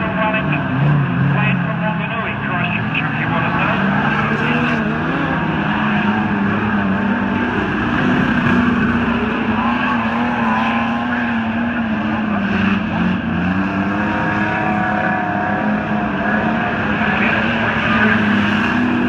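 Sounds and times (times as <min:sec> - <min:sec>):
race car engines running hard: 0:00.0 - 0:19.0.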